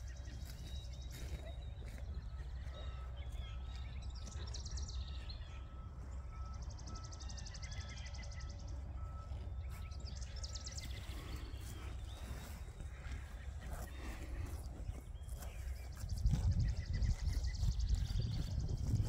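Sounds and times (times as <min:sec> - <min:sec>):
low steady rumble: 0:00.0 - 0:19.0
songbirds singing: 0:00.0 - 0:19.0.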